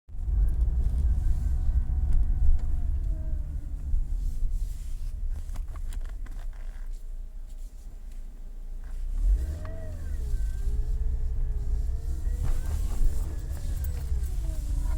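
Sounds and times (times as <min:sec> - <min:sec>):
car engine rumbling: 0:00.1 - 0:14.9.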